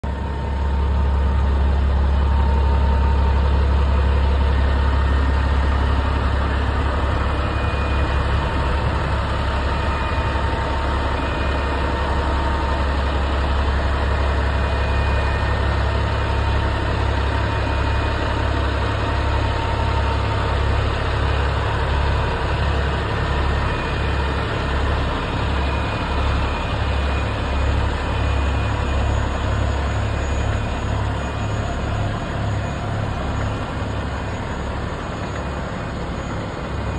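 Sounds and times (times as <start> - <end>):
diesel truck engine idling: 0.0 - 36.9.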